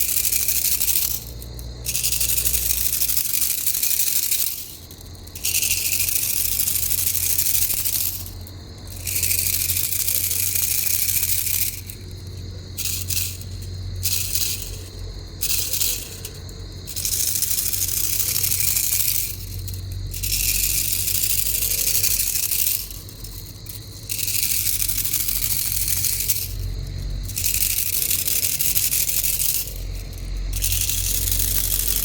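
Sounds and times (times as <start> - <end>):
cicadas buzzing: 0.0 - 32.0
steady low rumble: 0.4 - 32.0.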